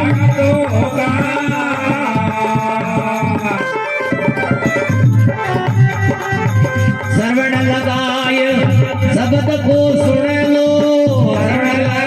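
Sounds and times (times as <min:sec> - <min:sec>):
hand drum beats: 0:00.0 - 0:12.0.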